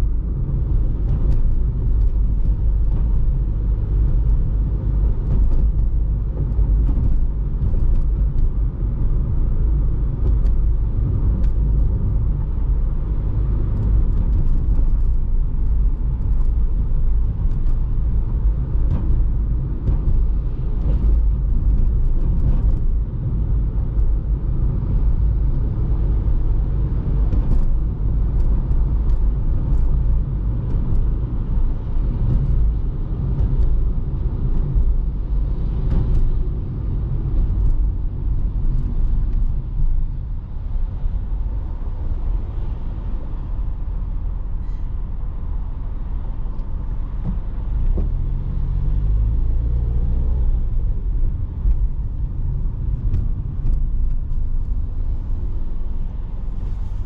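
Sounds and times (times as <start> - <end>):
car driving on road: 0.0 - 57.0.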